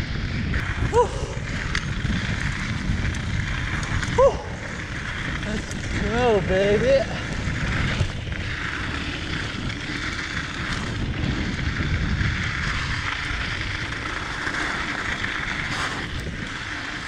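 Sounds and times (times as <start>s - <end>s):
bike tyres rumbling on dirt: 0.0s - 17.0s
wind noise on microphone: 0.0s - 17.0s.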